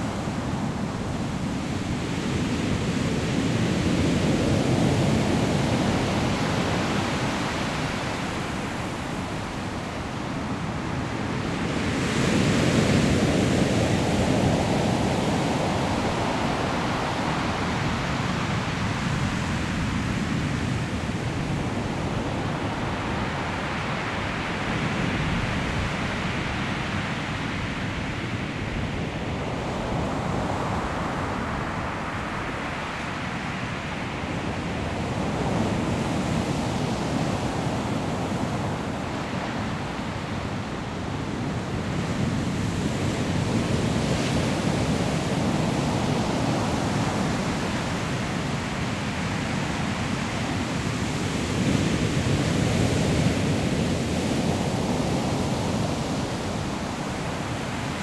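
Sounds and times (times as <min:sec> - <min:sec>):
wind: 0:00.0 - 0:58.0.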